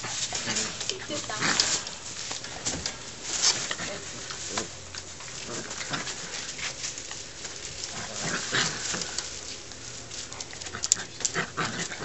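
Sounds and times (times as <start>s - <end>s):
puppies scuffling in fabric tunnel: 0.0s - 12.0s.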